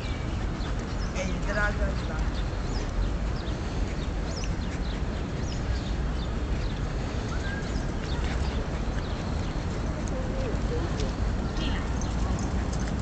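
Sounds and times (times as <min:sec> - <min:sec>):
low rumble of outdoor noise: 0:00.0 - 0:13.0
small birds chirping: 0:00.0 - 0:13.0.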